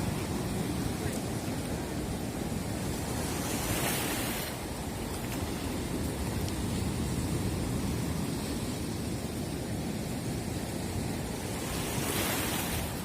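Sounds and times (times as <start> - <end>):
sea waves: 0.0 - 13.0
wind rumbling on microphone: 0.0 - 13.0.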